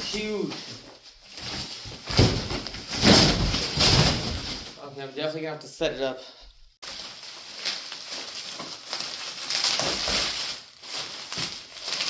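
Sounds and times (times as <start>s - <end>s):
packaging rustling and crinkling: 0.0s - 4.8s, 6.8s - 12.0s.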